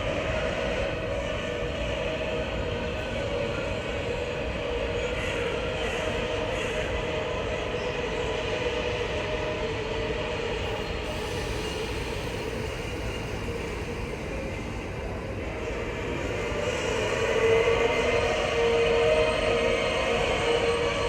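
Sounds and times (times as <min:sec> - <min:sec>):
train rolling noise: 0:00.0 - 0:21.0.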